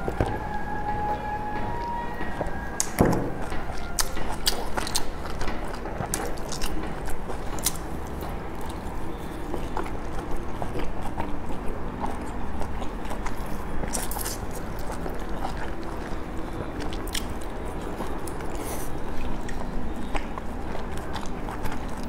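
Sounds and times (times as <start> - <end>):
person chewing dumplings: 0.0 - 22.0.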